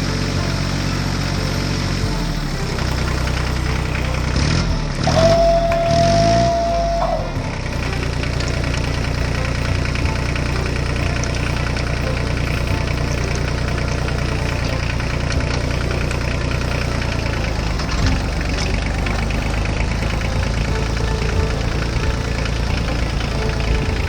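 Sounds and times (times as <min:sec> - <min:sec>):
heavy engine idling: 0:00.0 - 0:24.0.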